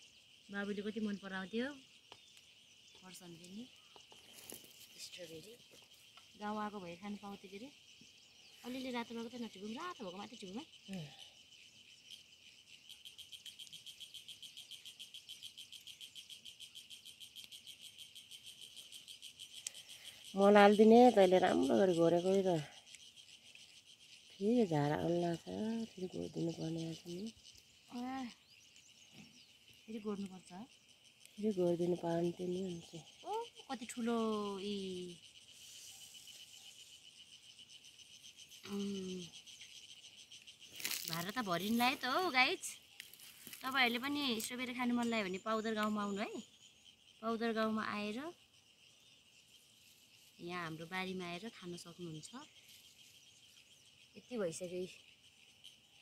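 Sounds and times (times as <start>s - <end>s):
faint insect chirring: 0.0s - 56.0s.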